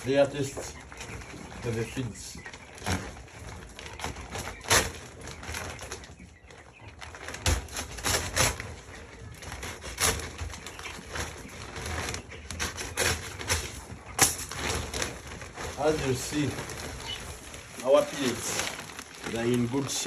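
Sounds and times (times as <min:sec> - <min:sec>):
chickens calling softly: 0:00.0 - 0:20.0.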